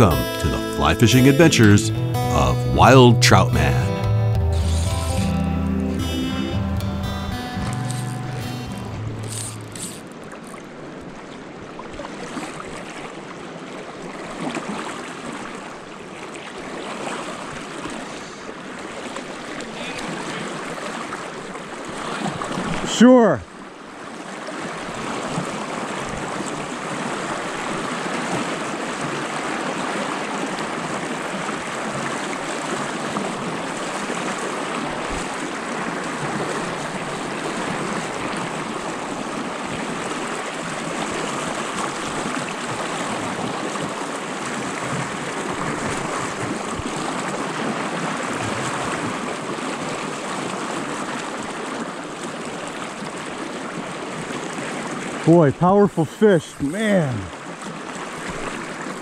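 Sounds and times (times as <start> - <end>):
fast-flowing creek: 8.0 - 59.0.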